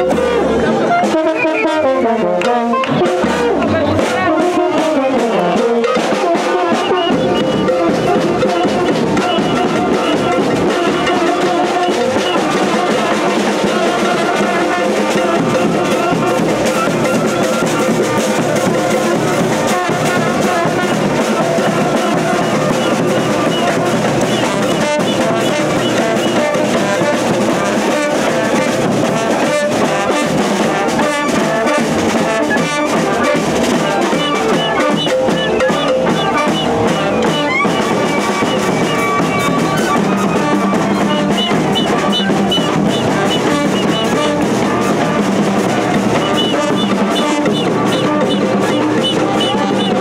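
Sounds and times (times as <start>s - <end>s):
bass drum: 0.0s - 50.0s
brass horns: 0.0s - 50.0s
cymbals: 0.0s - 50.0s
saxophone: 0.0s - 50.0s.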